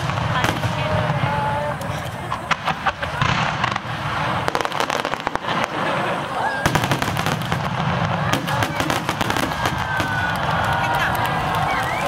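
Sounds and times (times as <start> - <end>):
fireworks bursting with bangs: 0.0 - 12.0
fireworks crackling: 0.0 - 12.0.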